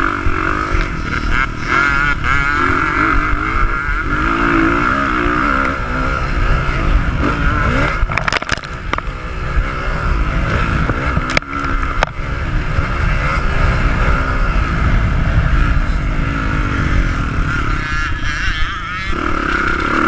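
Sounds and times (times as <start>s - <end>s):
dirt bike engine revving: 0.0s - 20.0s
wind rumble on microphone: 0.0s - 20.0s.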